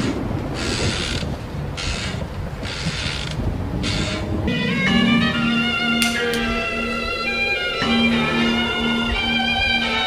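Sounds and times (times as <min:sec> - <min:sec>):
bowed strings with violin: 0:01.9 - 0:10.0.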